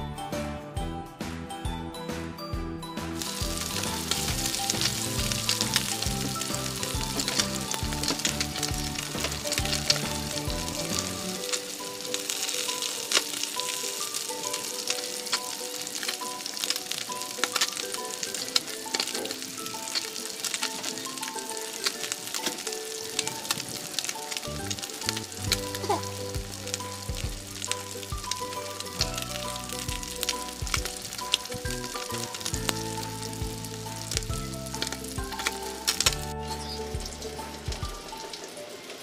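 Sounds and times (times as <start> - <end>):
background music: 0.0 - 39.0
fish sizzling in hot oil: 3.2 - 39.0
oil popping spatters: 3.2 - 39.0.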